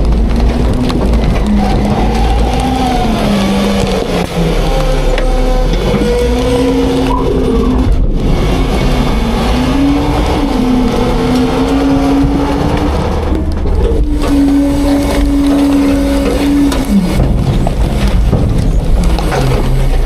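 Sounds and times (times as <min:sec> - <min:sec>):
garbage truck diesel engine running: 0:00.0 - 0:20.0.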